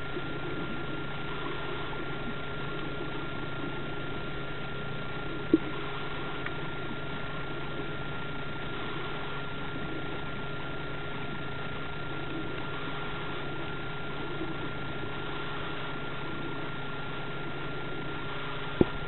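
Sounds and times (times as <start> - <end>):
steady hum and hiss: 0.0 - 19.0.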